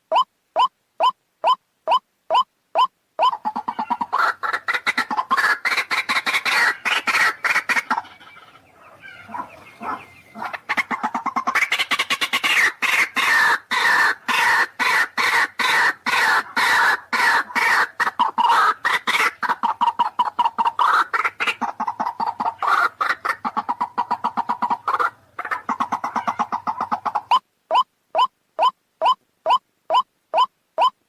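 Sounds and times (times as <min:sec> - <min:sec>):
waterhen calling harsh notes: 0:00.0 - 0:31.0.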